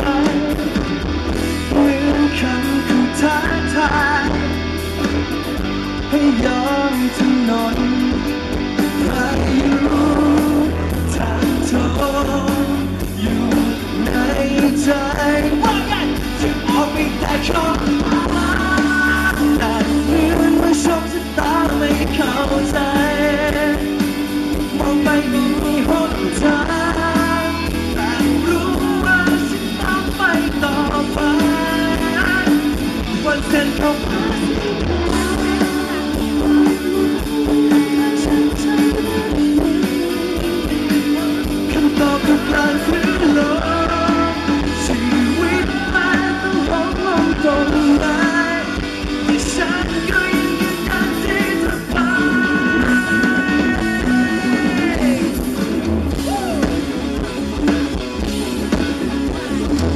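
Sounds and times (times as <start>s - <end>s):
man singing: 0.0s - 4.8s, 5.9s - 56.8s
drum kit: 0.0s - 59.9s
rock band playing: 0.0s - 59.9s.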